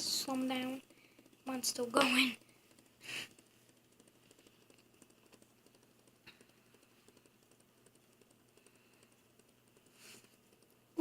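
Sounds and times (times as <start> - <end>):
fidget spinners ticking: 0.0 - 11.0.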